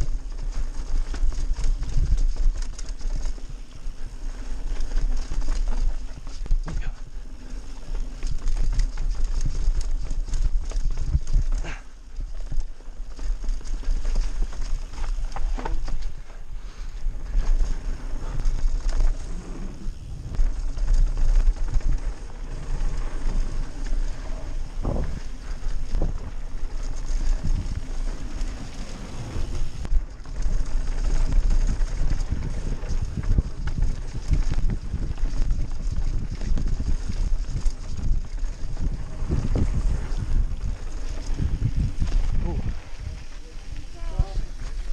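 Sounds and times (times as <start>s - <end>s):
bike knocks and rattles: 0.0s - 16.4s, 20.2s - 43.0s
bike tyre noise on dirt: 0.0s - 44.9s
wind buffeting microphone: 0.0s - 44.9s.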